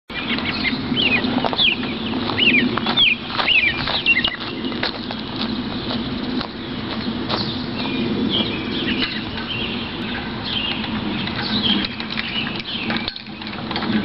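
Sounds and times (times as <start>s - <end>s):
songbird chirping: 0.1s - 13.7s.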